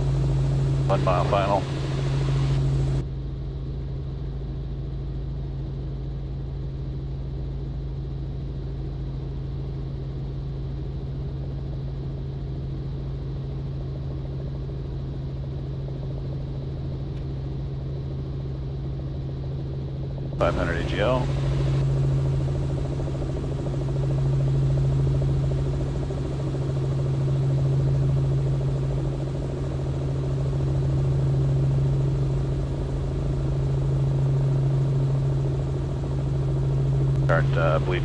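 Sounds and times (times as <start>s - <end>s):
helicopter engine and rotors drone: 0.0s - 38.0s.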